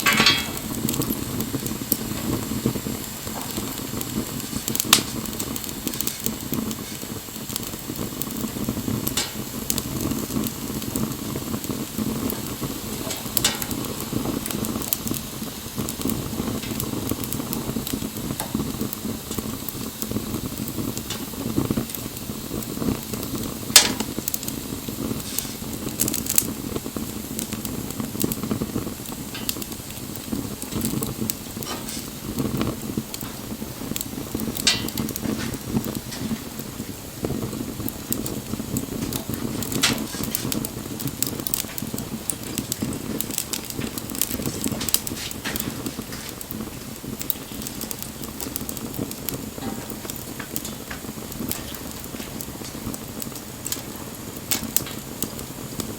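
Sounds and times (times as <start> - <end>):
bonfire flames rushing: 0.0 - 55.9
fire crackles and pops: 0.0 - 55.9.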